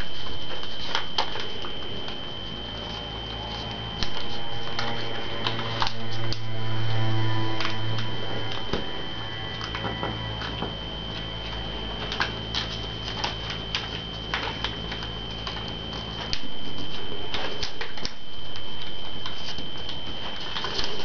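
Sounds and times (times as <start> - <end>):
paper folding and crinkling: 0.0 - 6.4, 7.5 - 21.0
high-pitched whine: 0.0 - 21.0.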